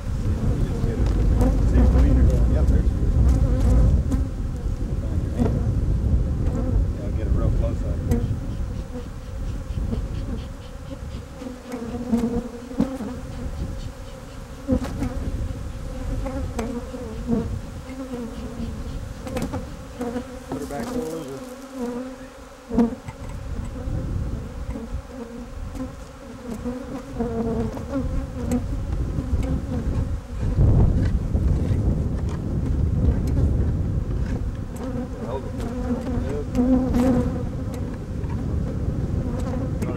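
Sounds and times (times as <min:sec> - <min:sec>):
honey bees buzzing: 0:00.0 - 0:39.9.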